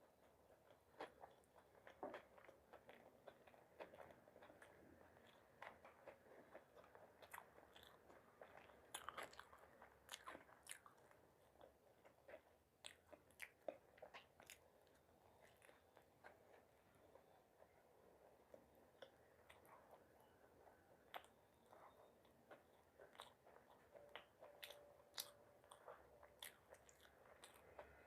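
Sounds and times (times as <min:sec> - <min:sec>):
chewing and biting food: 0:00.0 - 0:28.0.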